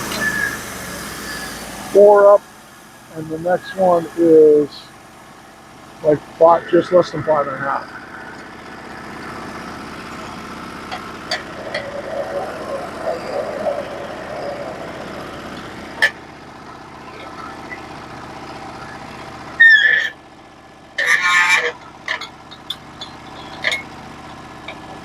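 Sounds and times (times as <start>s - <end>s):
gas engine running: 0.0s - 25.0s.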